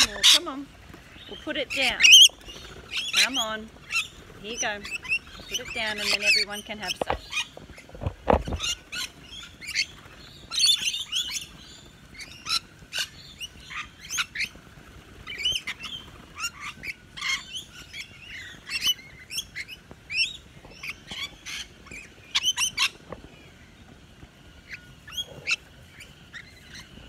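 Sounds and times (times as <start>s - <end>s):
lorikeets shrill calls and screeches: 0.0s - 7.8s, 8.5s - 14.6s, 15.2s - 23.0s, 24.6s - 27.0s.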